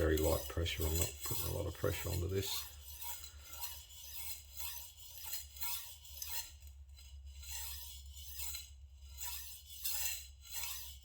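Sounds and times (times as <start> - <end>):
knife scraping on sharpening stone: 0.0 - 11.0.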